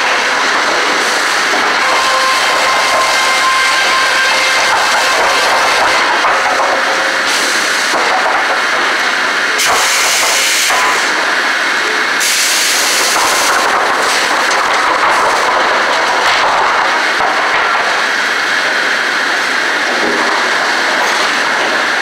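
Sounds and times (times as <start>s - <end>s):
boards sliding along chains: 0.0s - 11.1s, 12.2s - 22.0s.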